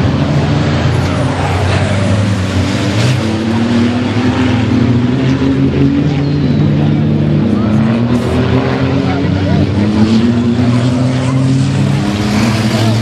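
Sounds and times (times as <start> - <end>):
truck diesel engine running hard: 0.0 - 13.0.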